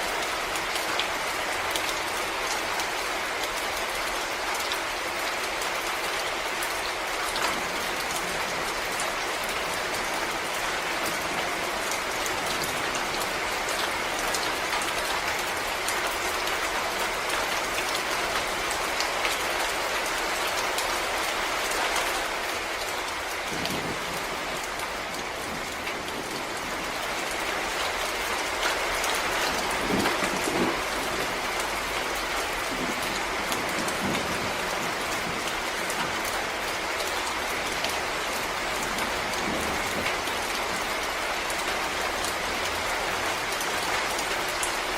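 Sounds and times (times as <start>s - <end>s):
rain falling on leaves: 0.0s - 44.9s
heavy raindrops landing close: 6.2s - 44.9s.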